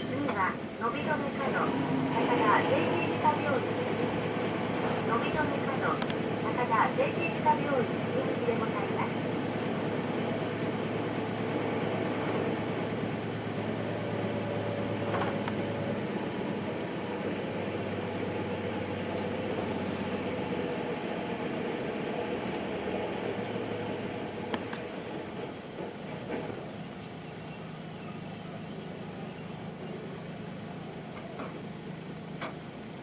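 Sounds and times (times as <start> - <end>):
bus cabin noise: 0.0 - 33.0
bus diesel engine running: 0.0 - 33.0.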